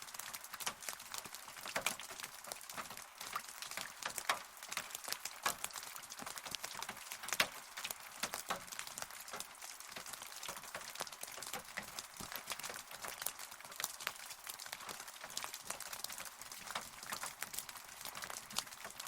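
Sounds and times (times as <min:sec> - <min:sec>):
rain hiss: 0:00.0 - 0:19.0
rain pattering: 0:00.0 - 0:19.0.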